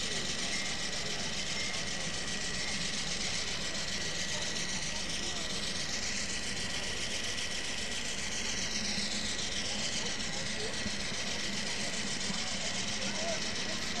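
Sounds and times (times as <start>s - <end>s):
engine-like drone with high whine: 0.0s - 14.0s
murmur of voices: 0.0s - 14.0s.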